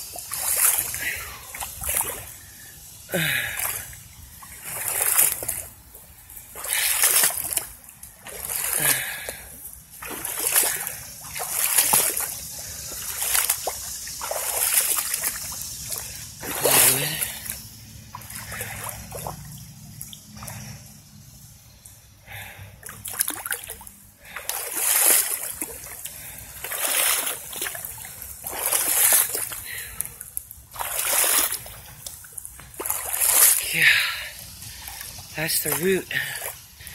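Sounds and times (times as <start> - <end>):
boots wading through water: 0.0 - 21.3, 22.3 - 36.9.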